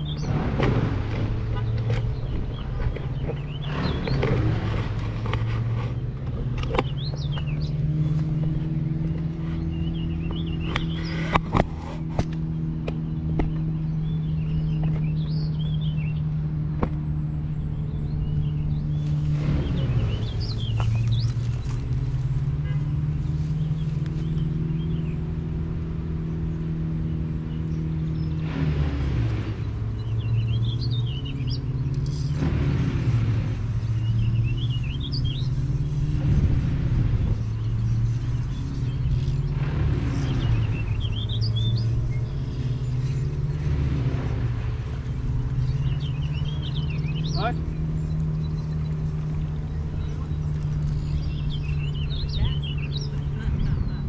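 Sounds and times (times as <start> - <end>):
bird chirping: 0.0 - 0.4, 1.5 - 25.5, 29.9 - 32.4, 33.8 - 54.0
low motor hum: 0.0 - 54.0.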